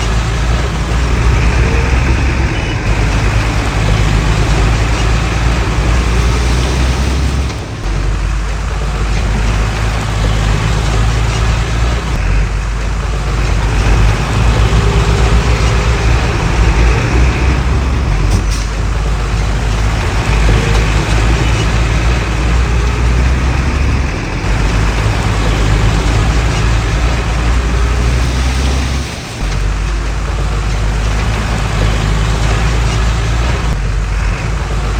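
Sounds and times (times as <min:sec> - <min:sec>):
heavy diesel engine droning: 0:00.0 - 0:34.9.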